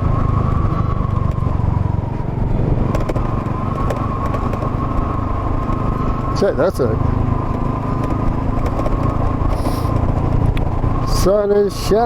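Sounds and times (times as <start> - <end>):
small motorcycle engine cruising: 0.0 - 12.0.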